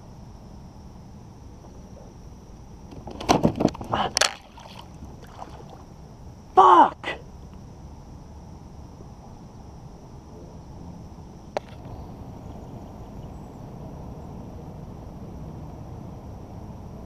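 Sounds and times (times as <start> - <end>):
faint high insect hum: 0.0 - 17.0.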